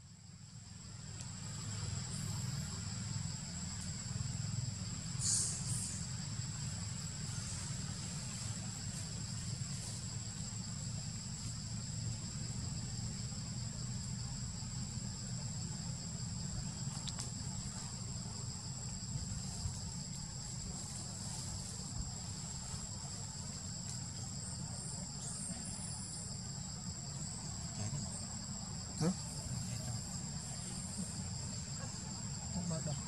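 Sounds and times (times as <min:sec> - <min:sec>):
insect chorus drone: 0:00.0 - 0:33.0
low steady rumble: 0:00.0 - 0:33.0.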